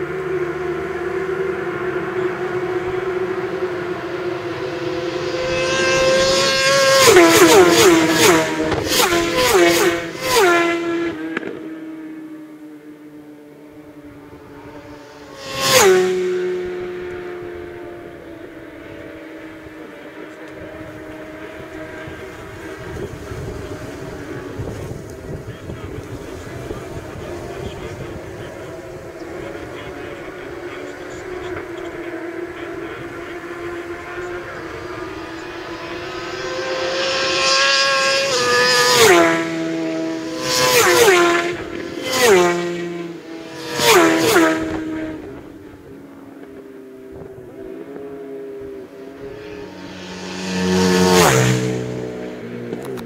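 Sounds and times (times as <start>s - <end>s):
motorcycle passing at speed: 0.0s - 53.0s.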